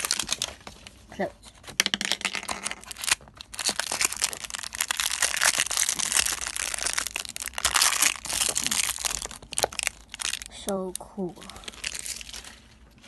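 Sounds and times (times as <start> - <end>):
plastic wrap crinkling: 0.0 - 1.0, 1.8 - 13.0.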